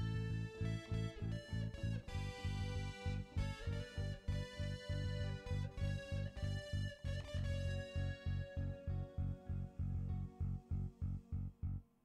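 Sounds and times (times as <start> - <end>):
music with pulsing bass beat: 0.0 - 11.6.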